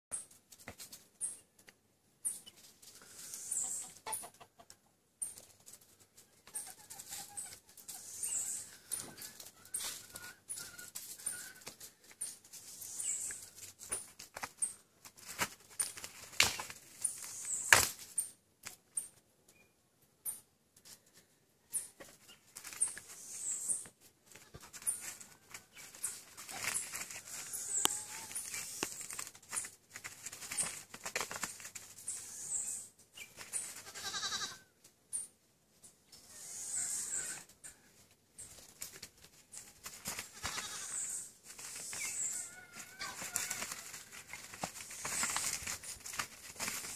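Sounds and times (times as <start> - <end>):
rustling of dry leaves: 2.3 - 4.6, 5.3 - 18.4, 21.9 - 34.7, 36.1 - 46.9.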